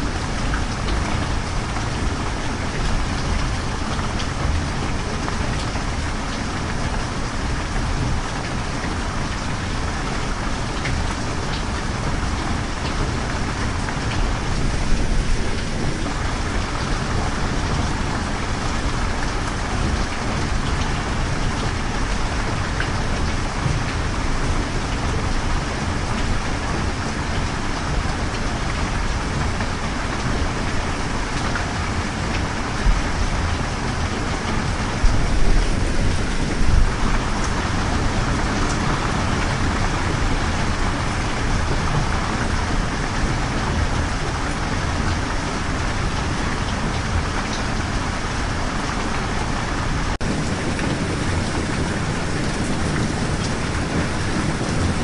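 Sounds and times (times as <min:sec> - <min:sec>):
steady rain patter: 0:00.0 - 0:55.0.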